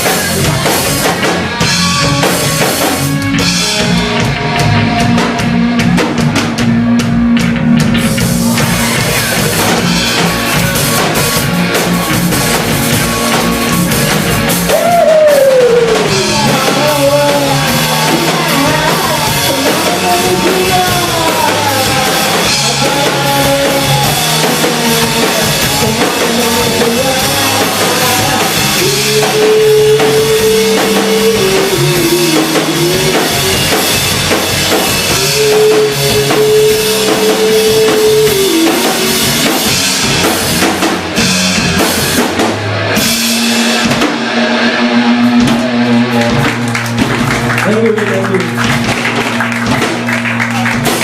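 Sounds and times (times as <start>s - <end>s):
busy drum kit: 0.0s - 51.0s
rock band playing: 0.0s - 51.0s.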